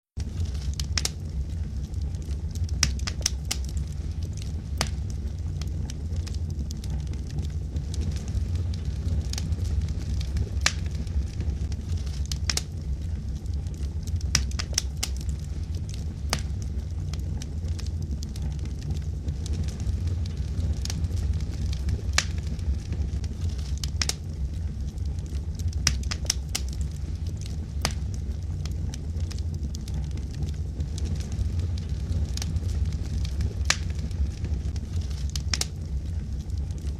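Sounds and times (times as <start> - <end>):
wood logs crackling in fireplace: 0.1 - 36.9.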